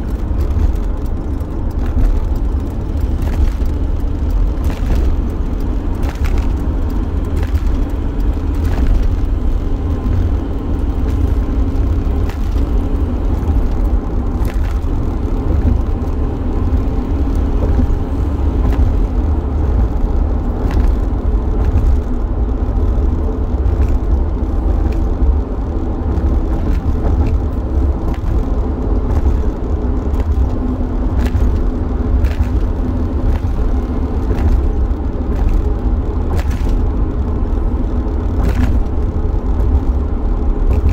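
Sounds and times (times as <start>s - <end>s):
road noise: 0.0s - 40.9s
van engine rumble: 0.0s - 40.9s.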